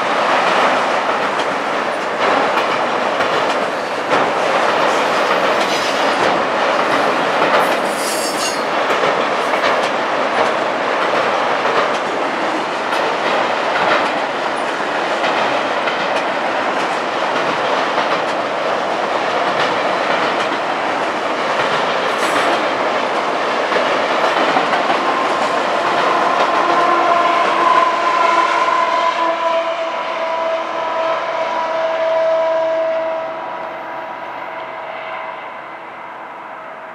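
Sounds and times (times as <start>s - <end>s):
steel wheels rushing on rail: 0.0s - 36.9s.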